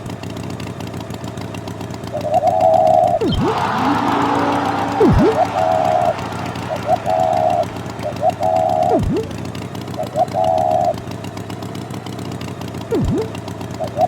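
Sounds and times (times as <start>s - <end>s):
cartoon tractor engine chugging: 1.8s - 14.0s.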